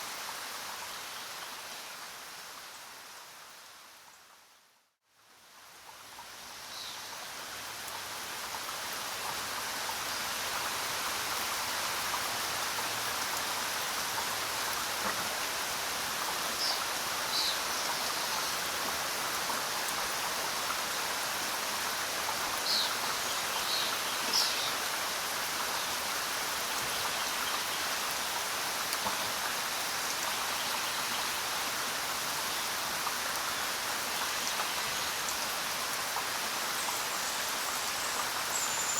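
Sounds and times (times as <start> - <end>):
steady rain in a forest: 0.0 - 38.9.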